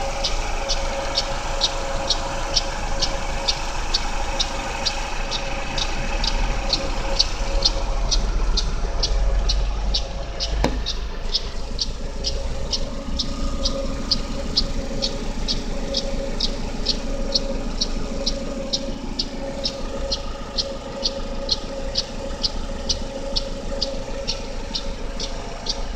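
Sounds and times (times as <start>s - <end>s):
car engine idling: 0.0s - 25.9s
sharp engine ticking: 0.0s - 25.9s.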